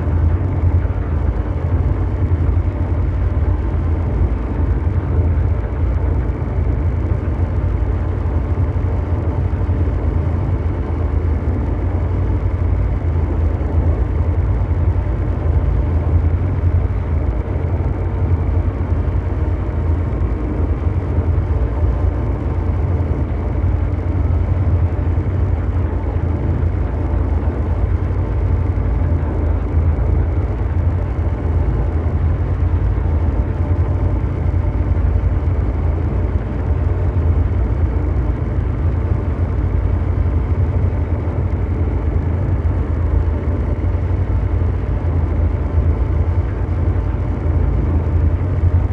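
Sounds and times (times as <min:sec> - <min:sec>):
faint hum tones: 0:00.0 - 0:48.9
mechanical drone: 0:00.0 - 0:48.9.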